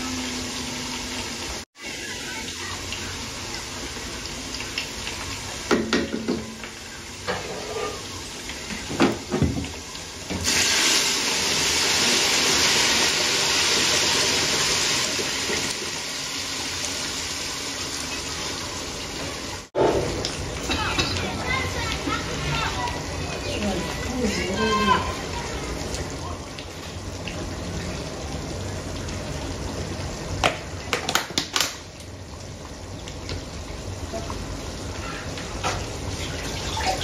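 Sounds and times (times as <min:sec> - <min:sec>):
onions simmering in a pot: 0:00.0 - 0:37.0.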